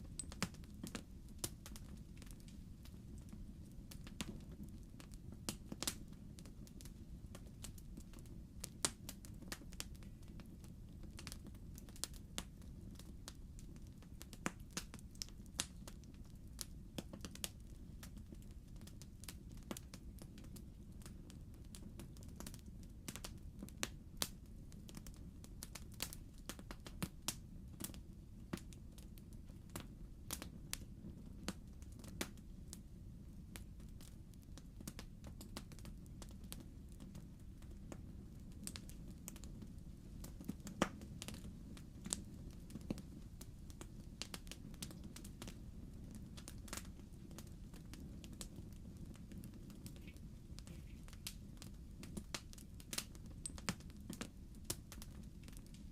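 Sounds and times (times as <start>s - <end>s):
logs crackling in a fireplace: 0.0s - 55.9s.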